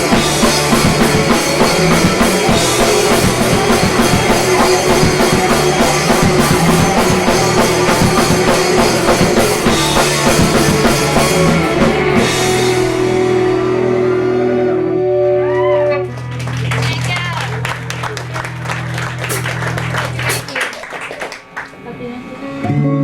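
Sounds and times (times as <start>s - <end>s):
drum kit: 0.0s - 14.6s, 16.1s - 21.5s
electric guitar: 0.0s - 23.0s.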